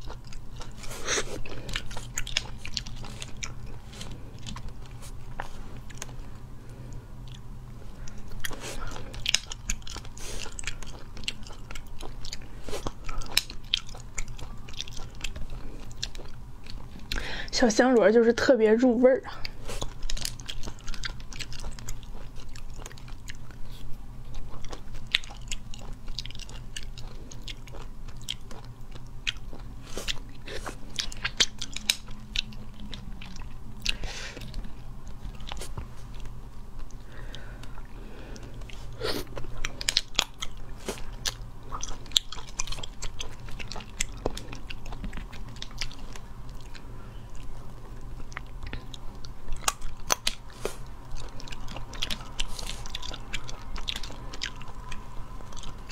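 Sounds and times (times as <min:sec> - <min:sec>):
chewing: 0:00.0 - 0:18.0, 0:19.3 - 0:55.9.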